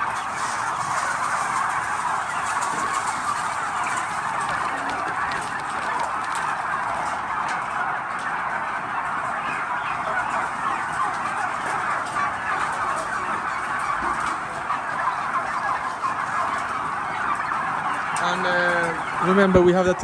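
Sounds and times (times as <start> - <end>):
flock of turkeys calling: 0.0 - 20.0.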